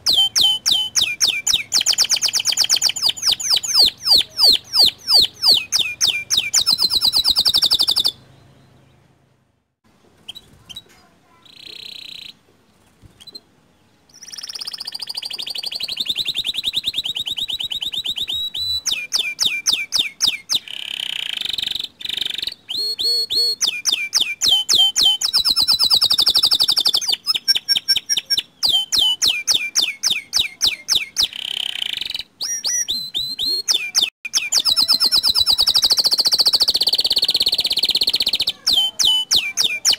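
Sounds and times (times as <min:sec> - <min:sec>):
canary singing trills: 0:00.0 - 0:09.2, 0:10.2 - 0:39.9.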